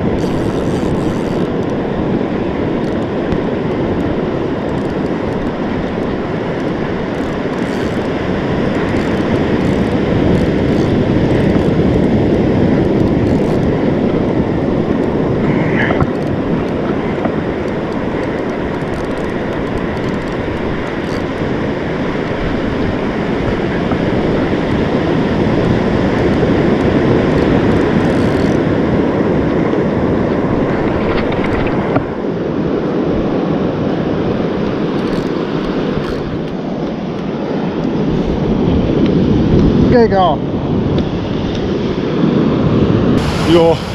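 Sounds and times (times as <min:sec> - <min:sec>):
breaking surf: 0:00.0 - 0:43.9
wind buffeting microphone: 0:00.0 - 0:43.9.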